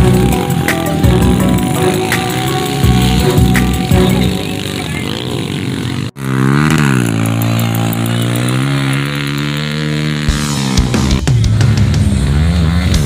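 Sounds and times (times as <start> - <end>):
small motorbike engines revving: 0.0 - 13.0.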